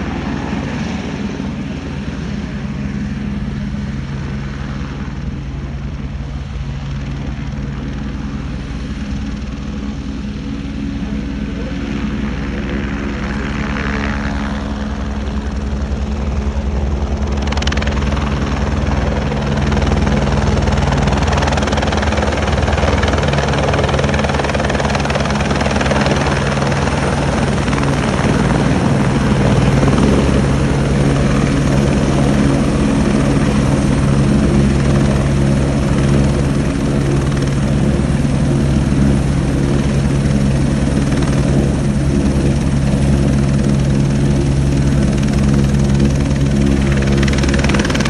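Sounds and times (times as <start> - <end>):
helicopter rotor and engine noise: 0.0 - 48.0.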